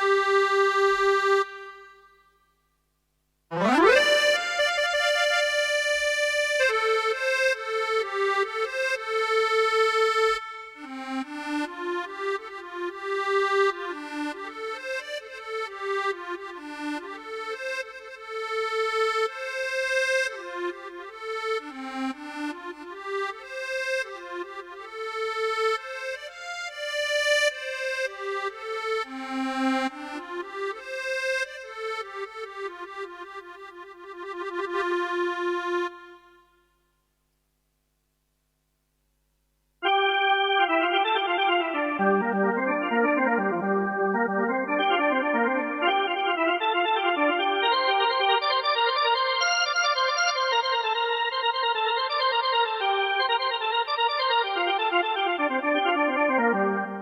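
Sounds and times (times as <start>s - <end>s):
keyboard accordion-like melody: 0.0s - 2.2s, 3.5s - 36.6s, 39.8s - 57.0s.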